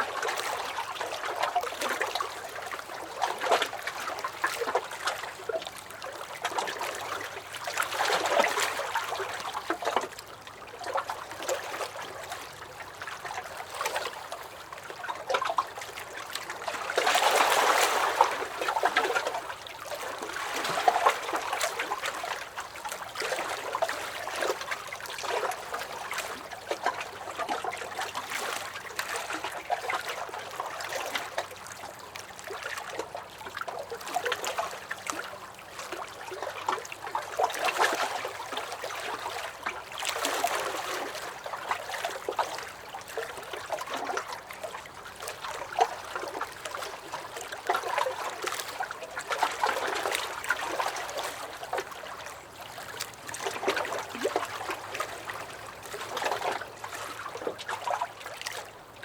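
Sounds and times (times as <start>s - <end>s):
waves lapping against dock: 0.0s - 59.0s.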